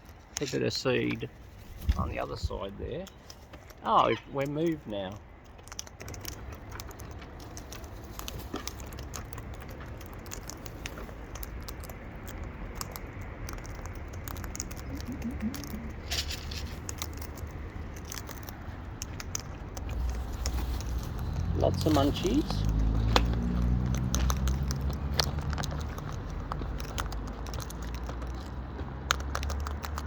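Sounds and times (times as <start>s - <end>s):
birds pecking seed: 0.0s - 30.0s.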